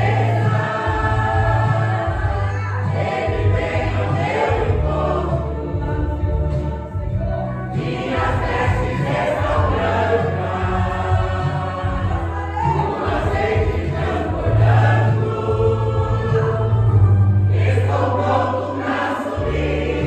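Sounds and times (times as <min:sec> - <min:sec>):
choir singing gospel: 0:00.0 - 0:20.0.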